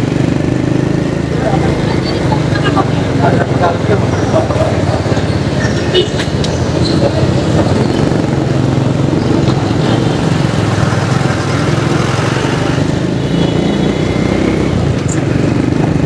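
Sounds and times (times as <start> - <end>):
road and traffic noise: 0.0 - 16.0
vehicle engine running: 0.0 - 16.0.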